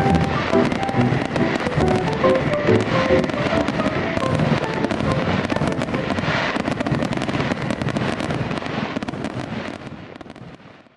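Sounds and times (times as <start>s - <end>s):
fireworks crackling and popping: 0.0s - 10.9s.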